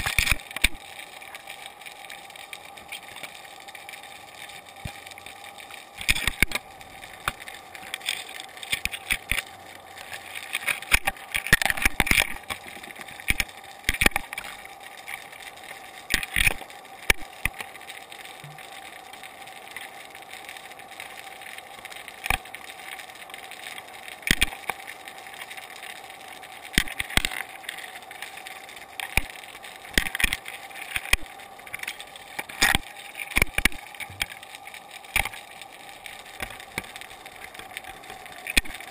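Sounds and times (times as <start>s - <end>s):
underwater hum: 0.0s - 38.9s.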